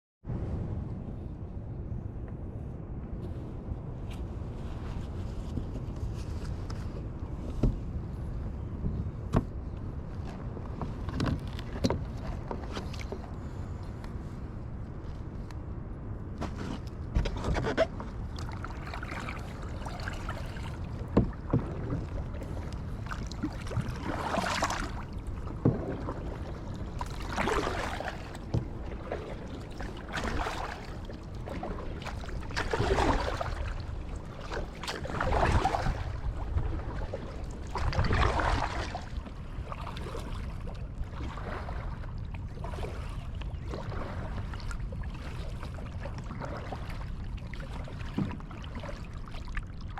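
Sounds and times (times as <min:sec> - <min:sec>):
low steady rumble: 0:00.3 - 0:49.9
paddle swishing through water: 0:02.6 - 0:15.5, 0:16.3 - 0:49.9.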